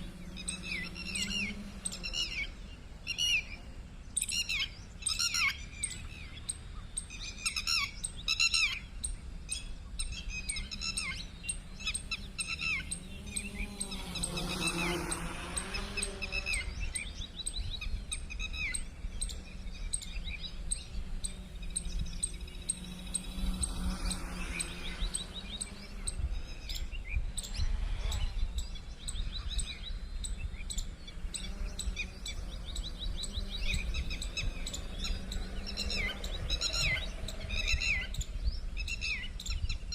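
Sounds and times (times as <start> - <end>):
low wavering hum: 0.0 - 39.9
small birds chirping: 0.0 - 39.9.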